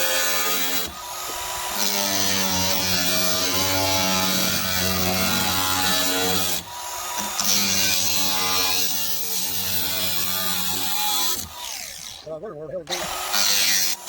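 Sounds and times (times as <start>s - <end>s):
power tool cutting sheet metal: 0.0s - 12.2s, 12.9s - 14.0s.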